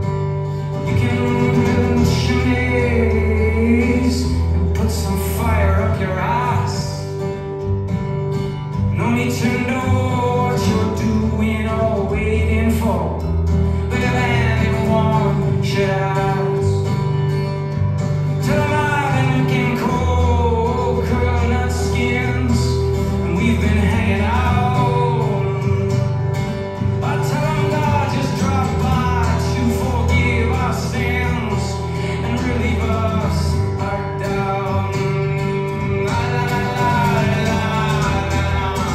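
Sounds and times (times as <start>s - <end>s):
acoustic guitar chords: 0.0s - 38.9s
man singing: 0.6s - 7.6s, 8.8s - 17.2s, 18.2s - 38.9s.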